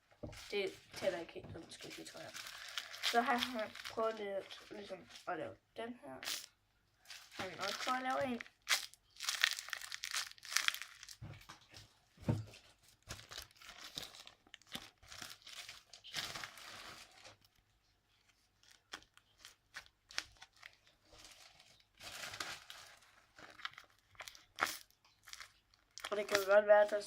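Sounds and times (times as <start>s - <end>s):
paper and plastic crinkling: 0.2s - 5.3s, 7.0s - 27.0s.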